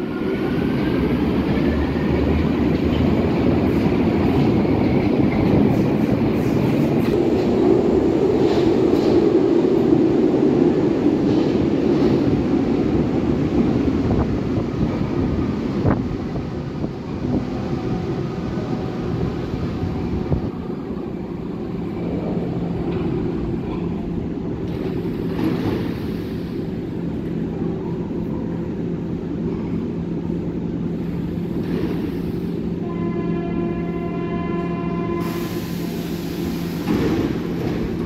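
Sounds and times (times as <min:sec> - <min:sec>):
train braking and rumbling: 0:00.0 - 0:38.0
train equipment humming: 0:00.0 - 0:38.0.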